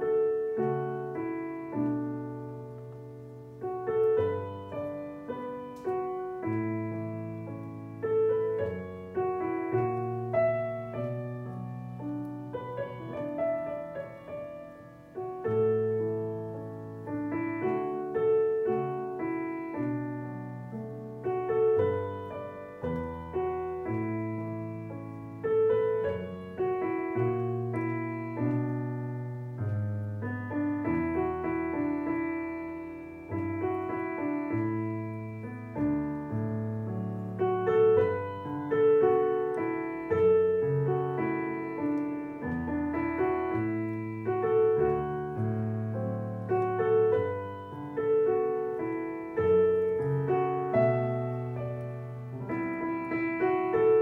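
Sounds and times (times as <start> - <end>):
digital piano playing: 0.0 - 54.0.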